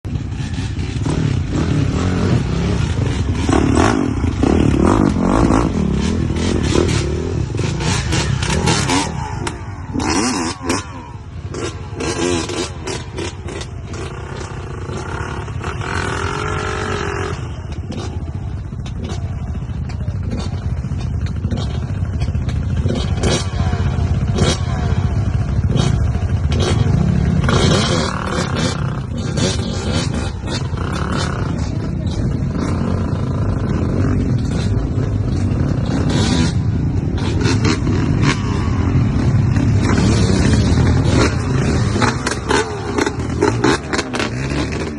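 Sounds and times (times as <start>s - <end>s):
off-road vehicle engine revving: 0.1s - 44.9s.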